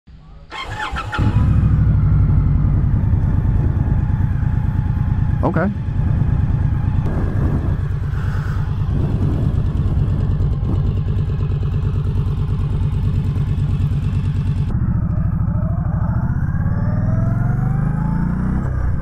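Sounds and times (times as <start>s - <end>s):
motorcycle engine idling: 0.5s - 16.8s
motorcycle accelerating: 0.5s - 19.0s.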